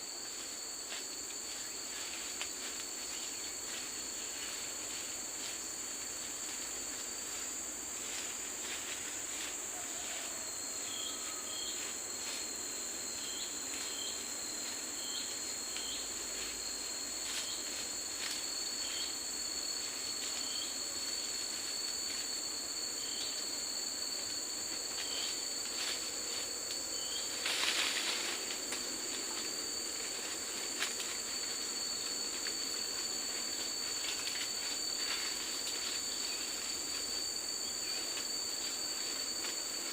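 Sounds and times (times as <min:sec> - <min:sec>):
insects buzzing: 0:00.0 - 0:39.9
rustle: 0:00.0 - 0:39.9.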